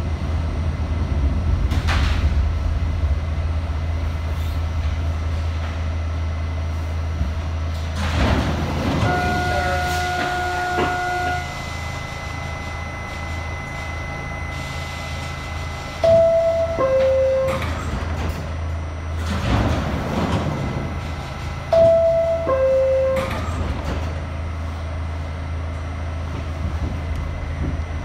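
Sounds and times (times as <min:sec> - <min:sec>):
low hum of subway car: 0:00.0 - 0:28.0.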